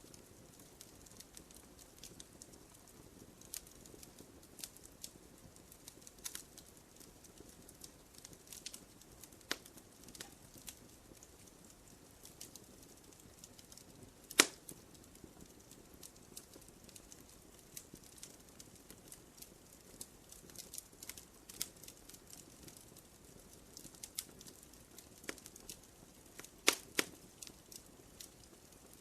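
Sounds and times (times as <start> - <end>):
fire popping: 0.0 - 29.0
wood fire crackling: 0.0 - 29.0.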